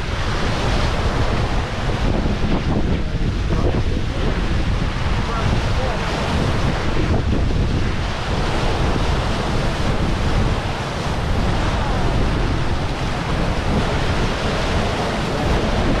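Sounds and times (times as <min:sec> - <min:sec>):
water splashing at ship's bow: 0:00.0 - 0:16.0
wind buffeting microphone: 0:00.0 - 0:16.0.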